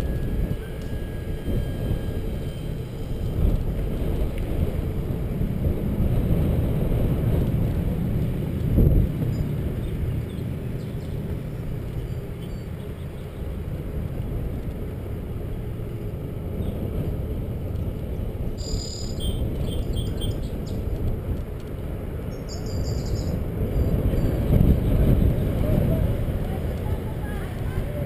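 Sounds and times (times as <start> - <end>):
bicycle rolling on trail: 0.0 - 28.0
wind on microphone: 0.0 - 28.0.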